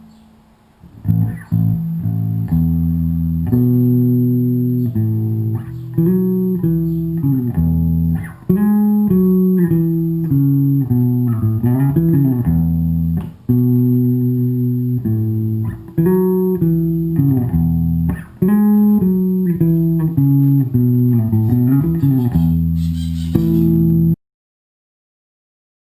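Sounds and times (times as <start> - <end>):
electric bass riff: 0.8 - 24.2.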